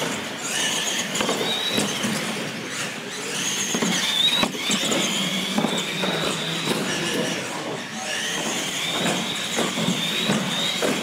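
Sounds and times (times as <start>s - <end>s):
toy truck electric motors whining: 0.0s - 11.0s.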